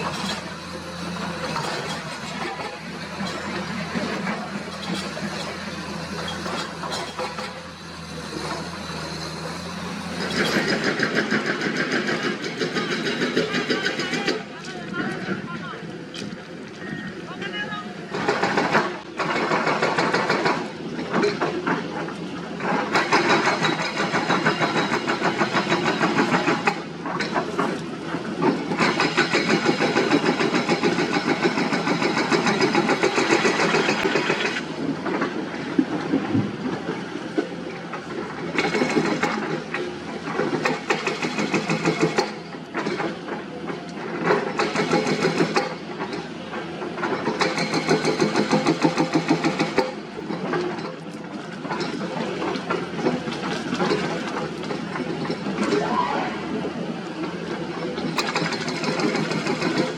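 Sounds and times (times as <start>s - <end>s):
diesel machinery engine under load: 0.0s - 59.9s.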